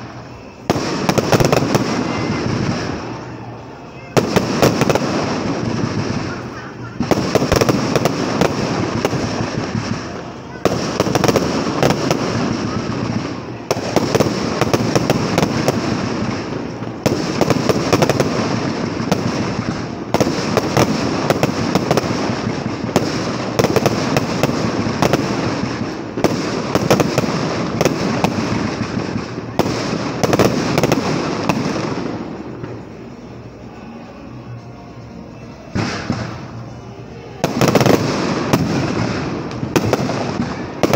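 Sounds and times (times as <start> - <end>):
fireworks crackling bangs: 0.0 - 34.1, 35.3 - 40.9
continuous rumble: 0.0 - 40.9.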